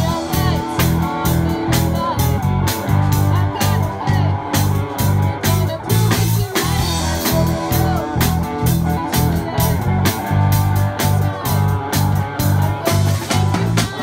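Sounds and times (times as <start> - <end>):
drum kit beat: 0.0 - 14.0
electric guitars: 0.0 - 14.0
low bass line: 0.0 - 14.0.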